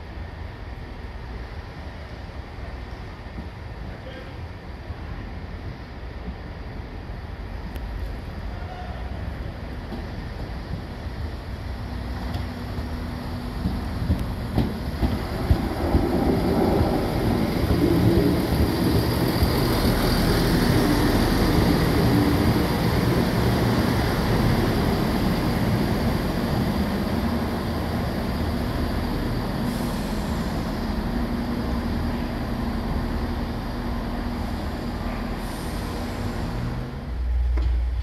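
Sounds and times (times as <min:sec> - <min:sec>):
train diesel engines humming: 0:00.0 - 0:38.0.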